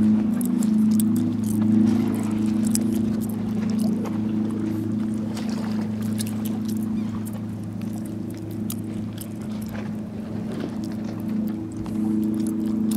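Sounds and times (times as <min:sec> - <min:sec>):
low motor hum: 0:00.0 - 0:12.9
waves lapping against pier: 0:00.0 - 0:12.9.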